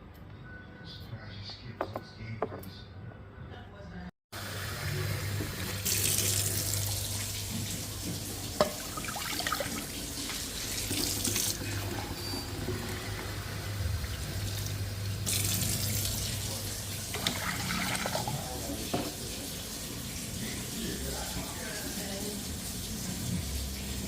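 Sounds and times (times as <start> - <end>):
tap water running into sink: 4.4 - 24.0.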